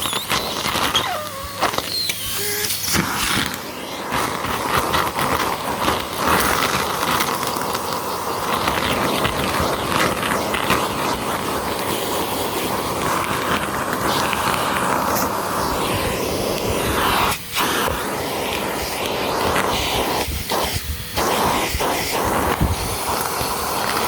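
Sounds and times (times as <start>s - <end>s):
grit clicking in vacuum: 0.0s - 24.0s
vacuum cleaner running: 0.0s - 24.0s.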